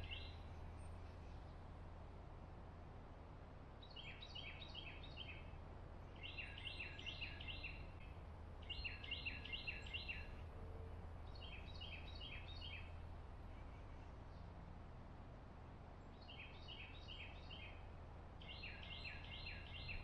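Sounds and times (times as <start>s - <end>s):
songbird singing: 0.0s - 2.0s, 3.8s - 14.6s, 15.6s - 20.0s.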